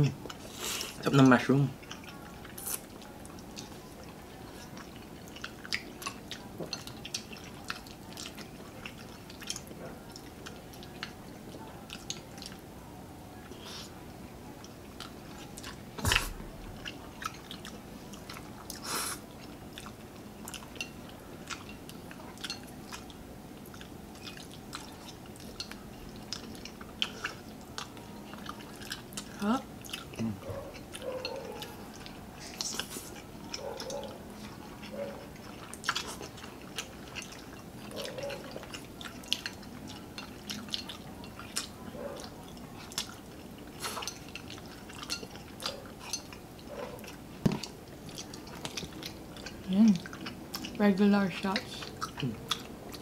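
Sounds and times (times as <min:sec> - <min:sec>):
chewing and slurping noodles: 0:01.7 - 0:12.7, 0:14.6 - 0:53.0.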